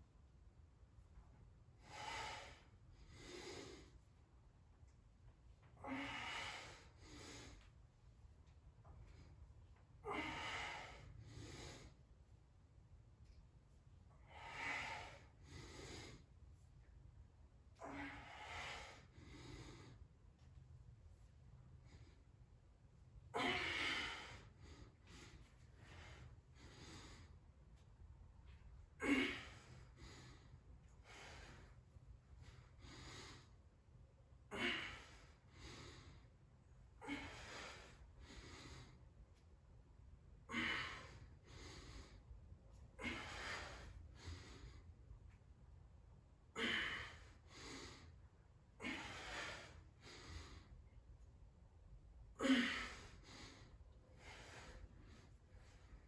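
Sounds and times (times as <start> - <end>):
man breathing heavily: 1.8 - 4.2, 5.6 - 7.9, 8.5 - 12.1, 14.1 - 17.0, 17.7 - 39.6, 40.4 - 45.1, 46.5 - 51.1, 52.3 - 56.0.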